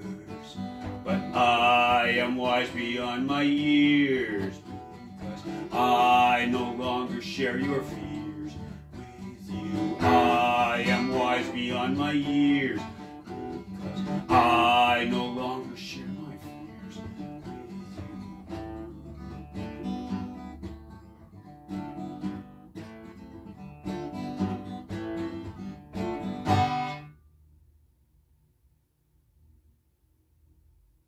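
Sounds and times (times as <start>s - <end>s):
acoustic guitar strummed and picked: 0.0s - 27.2s.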